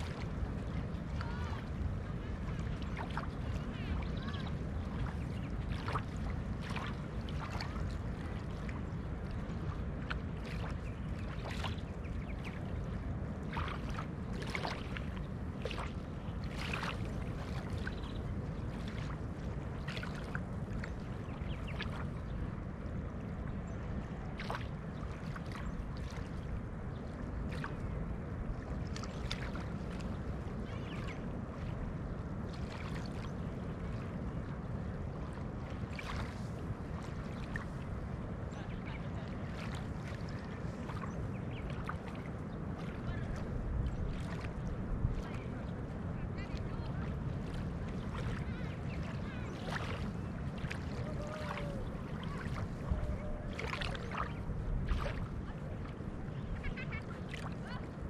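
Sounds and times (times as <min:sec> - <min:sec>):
sea ripples lapping on shore: 0:00.0 - 0:58.0.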